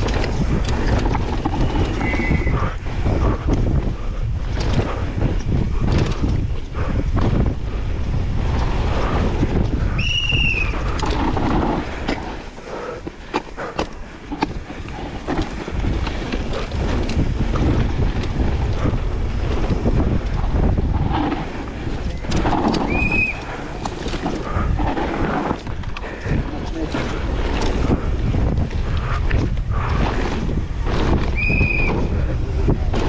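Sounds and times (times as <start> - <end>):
mountain bike rattling and knocking: 0.0 - 33.0
wind buffeting microphone: 0.0 - 33.0.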